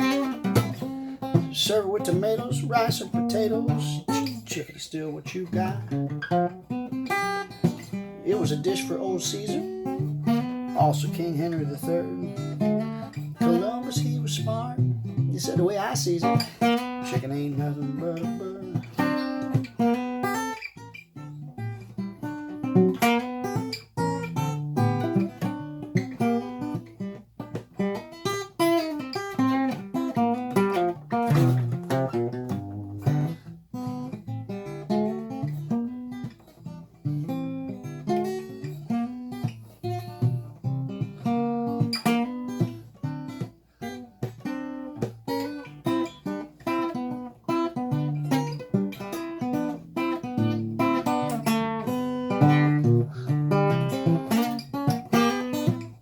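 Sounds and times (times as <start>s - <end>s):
acoustic guitar playing: 0.0s - 56.0s.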